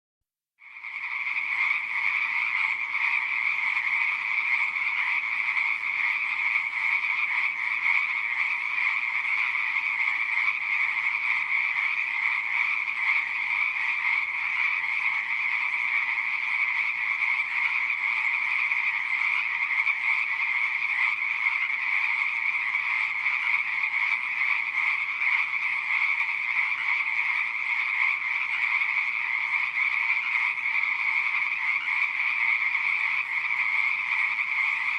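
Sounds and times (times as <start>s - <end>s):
chorus of frogs calling: 0.6s - 34.9s.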